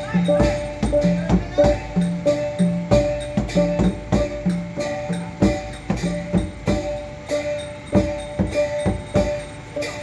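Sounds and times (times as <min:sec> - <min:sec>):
percussion strikes: 0:00.0 - 0:10.0
ringing metallic tone: 0:00.0 - 0:10.0.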